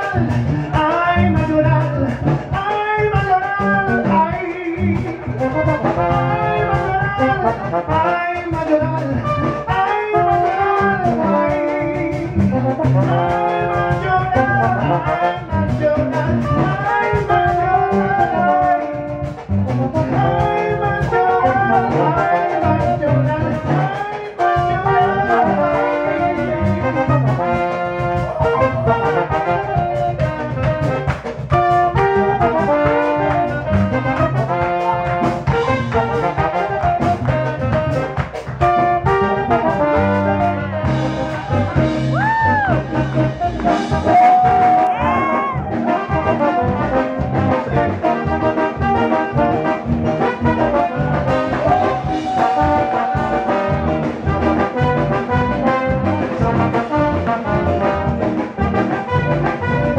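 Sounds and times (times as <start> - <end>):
latin jazz band playing: 0.0 - 59.9.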